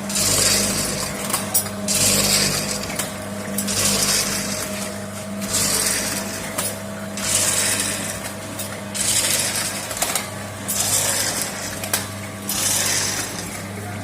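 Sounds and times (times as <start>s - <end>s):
packaging machine hum: 0.0s - 14.0s.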